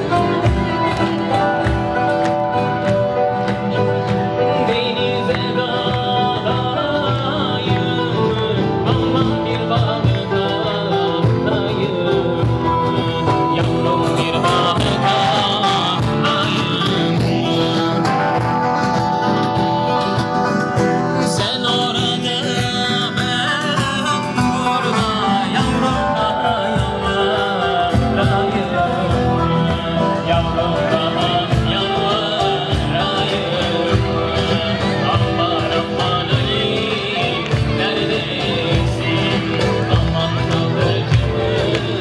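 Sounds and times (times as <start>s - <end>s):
song with singing: 0.0s - 42.0s.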